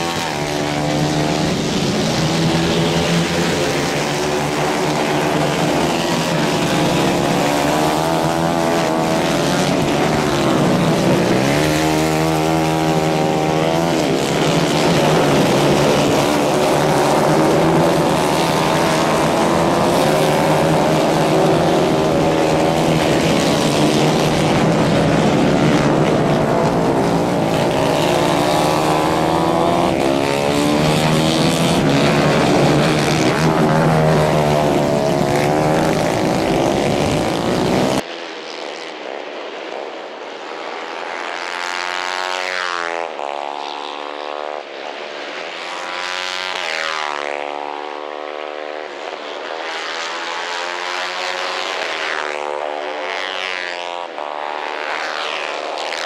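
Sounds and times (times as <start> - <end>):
distant kart engines passing: 0.0 - 56.0
racing kart engines droning: 0.0 - 56.0.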